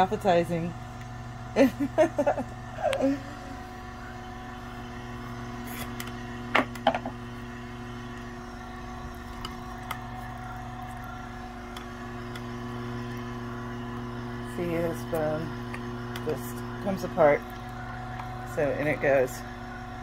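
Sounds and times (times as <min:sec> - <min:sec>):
juicer motor humming: 0:00.0 - 0:20.0.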